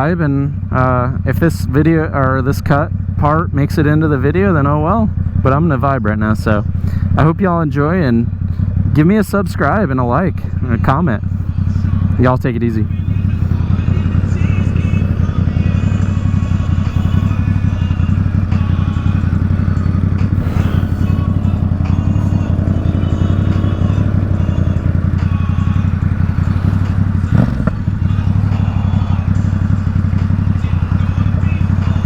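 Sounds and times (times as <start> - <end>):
motorcycle engine cruising: 0.0 - 32.0.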